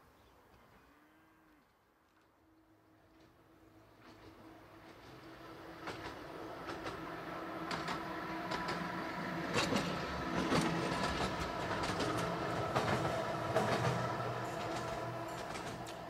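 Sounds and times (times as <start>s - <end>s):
electric tram motor hum: 3.0s - 16.0s
wheels clicking over rail joints: 3.0s - 16.0s.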